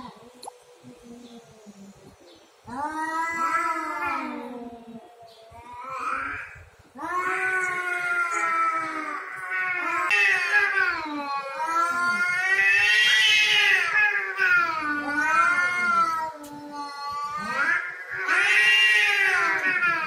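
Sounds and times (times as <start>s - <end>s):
cats yowling: 2.7s - 20.0s.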